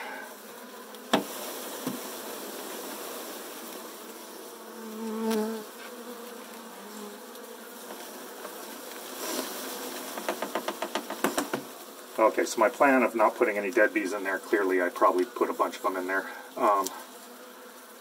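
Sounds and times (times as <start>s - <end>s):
single bee buzzing close: 0.0s - 12.2s, 12.9s - 18.0s
swarm of bees buzzing: 0.0s - 18.0s.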